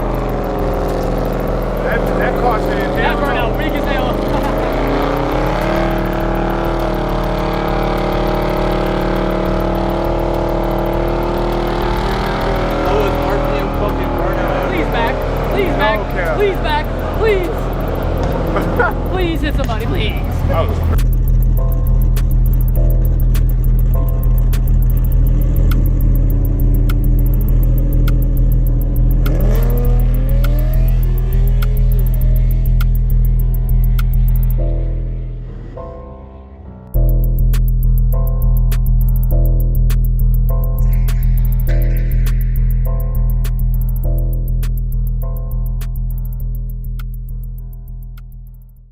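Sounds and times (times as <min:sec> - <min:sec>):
bass-heavy music with beat: 0:00.0 - 0:48.9
car engine running: 0:00.0 - 0:48.9.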